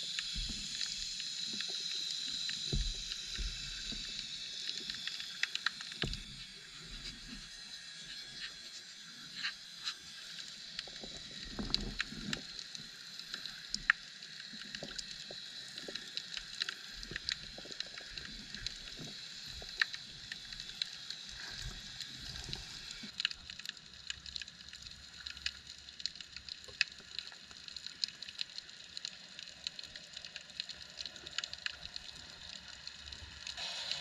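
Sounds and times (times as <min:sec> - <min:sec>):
underwater hiss: 0:00.0 - 0:26.5, 0:27.8 - 0:34.0
sharp underwater clicks and crackles: 0:00.0 - 0:34.0.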